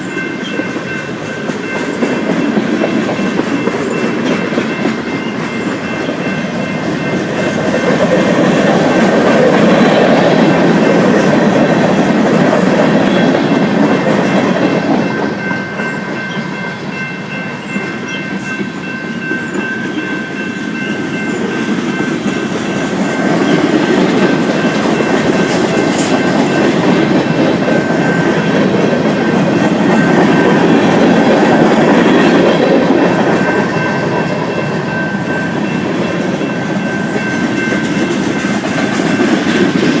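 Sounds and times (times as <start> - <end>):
train cars rolling on rails: 0.0 - 40.0
wheels clacking over rail joints: 0.0 - 40.0.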